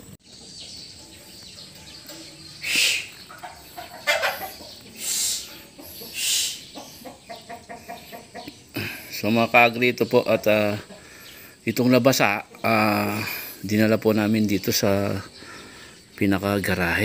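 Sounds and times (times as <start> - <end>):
chickens calling: 0.0 - 17.0.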